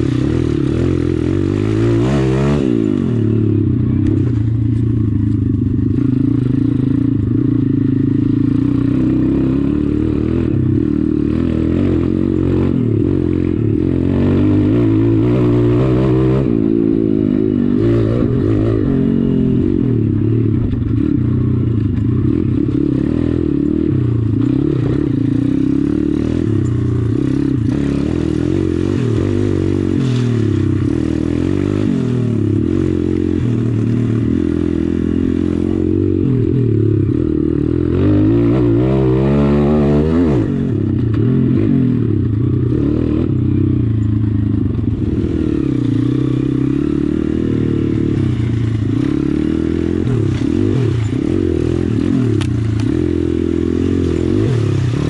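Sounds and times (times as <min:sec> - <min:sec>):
pit bike engine revving: 0:00.0 - 0:55.0.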